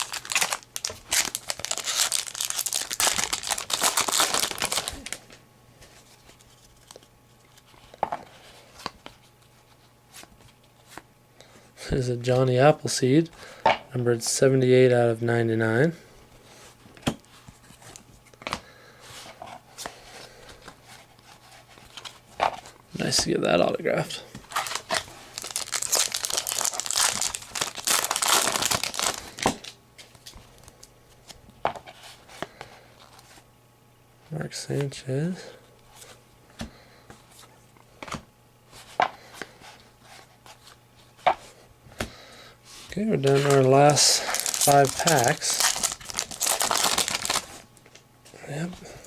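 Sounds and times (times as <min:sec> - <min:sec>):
rustling of trading cards: 0:00.0 - 0:12.5, 0:16.5 - 0:23.5, 0:24.2 - 0:33.4, 0:34.7 - 0:49.0.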